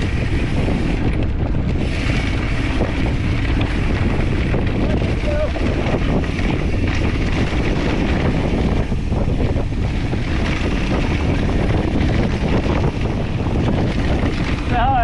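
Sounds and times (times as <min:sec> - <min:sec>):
mountain bike rumbling on dirt: 0:00.0 - 0:15.0
wind on microphone: 0:00.0 - 0:15.0.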